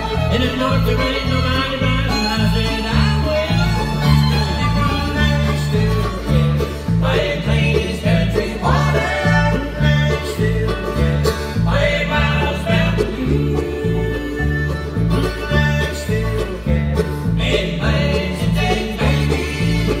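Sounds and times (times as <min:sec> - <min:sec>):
bluegrass band playing: 0:00.0 - 0:20.0
upright bass steady beat: 0:00.0 - 0:20.0.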